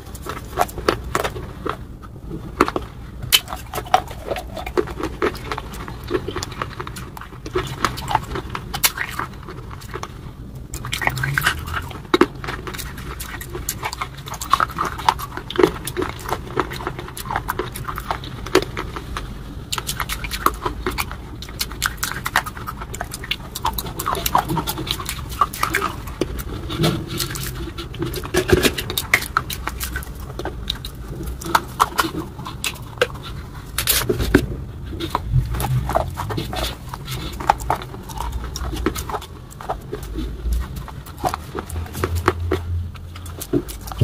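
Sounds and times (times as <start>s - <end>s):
crunchy chewing: 0.0s - 44.0s
wet mouth clicks: 2.6s - 44.0s.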